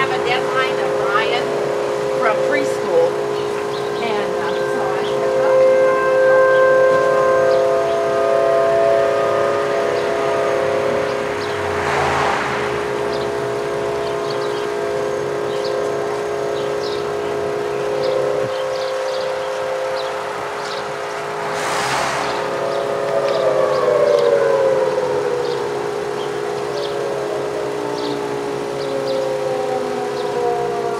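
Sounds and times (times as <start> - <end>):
cars passing: 0.0 - 28.8
warning siren steady tone: 0.0 - 30.9.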